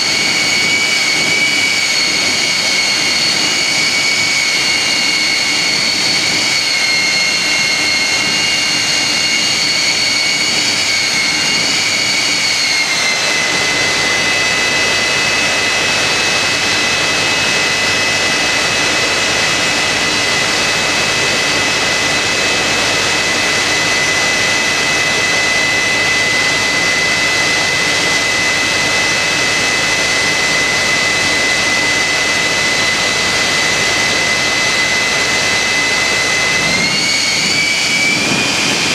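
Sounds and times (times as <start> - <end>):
jet engine running with whine: 0.0 - 38.9.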